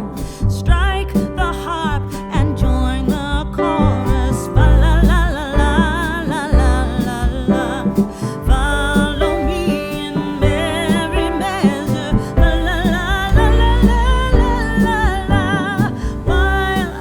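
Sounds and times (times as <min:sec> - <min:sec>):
song with singing over guitar: 0:00.0 - 0:17.0
steady bass beat: 0:00.0 - 0:17.0.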